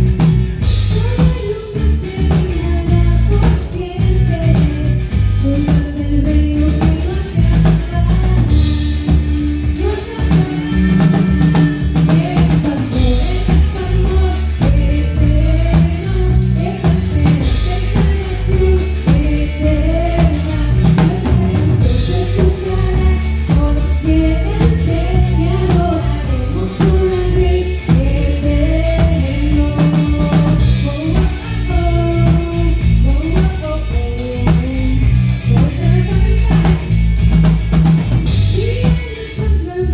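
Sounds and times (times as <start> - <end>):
live band playing: 0.0 - 39.9
person singing melody: 0.8 - 37.2, 38.3 - 39.9.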